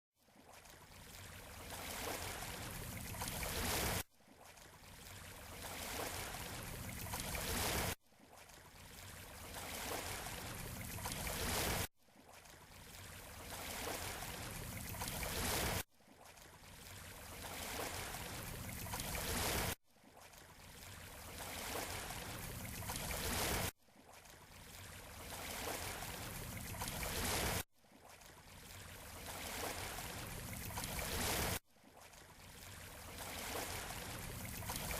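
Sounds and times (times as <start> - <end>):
looped shoreline surf: 0.4 - 34.9.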